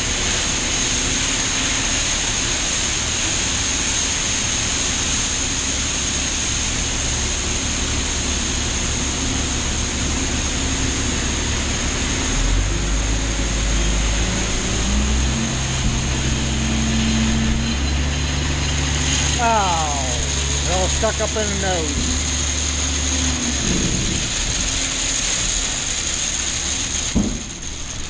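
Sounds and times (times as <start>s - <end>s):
high mechanical whine: 0.0s - 28.0s
tractor engine running: 0.0s - 28.0s.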